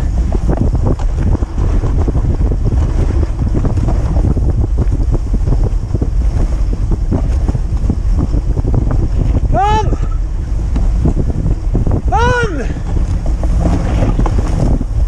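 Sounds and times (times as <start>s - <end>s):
sled crackling over snow: 0.0s - 15.0s
wind over microphone: 0.0s - 15.0s.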